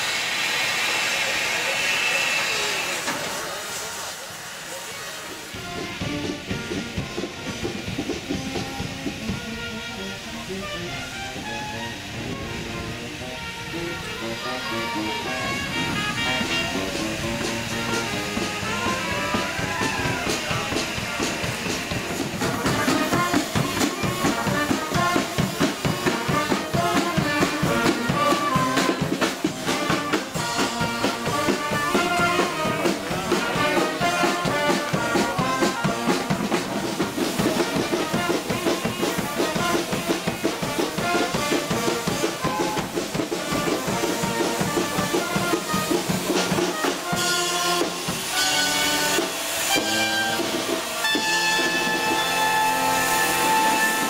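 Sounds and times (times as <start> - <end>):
brass band playing: 5.5 - 54.0.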